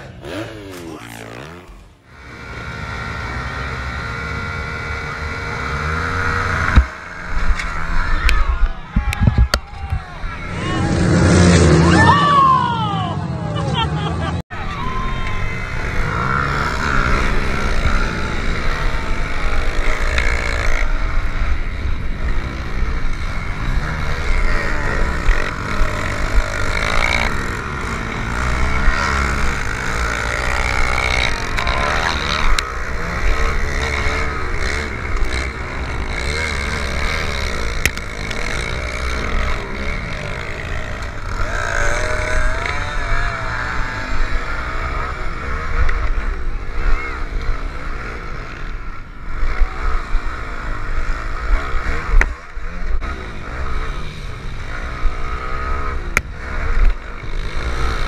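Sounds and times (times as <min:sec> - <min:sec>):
pit bike engines revving: 0:00.0 - 0:58.0.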